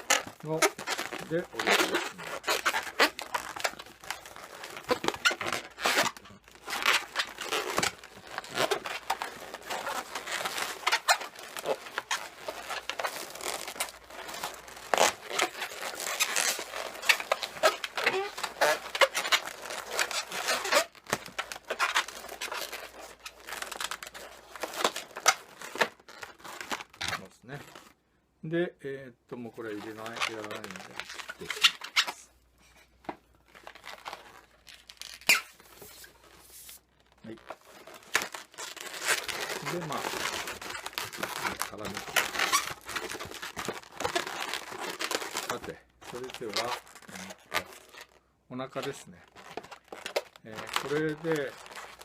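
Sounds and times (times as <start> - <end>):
balloon rubbing and squeaking: 0.0 - 28.0, 29.4 - 52.0.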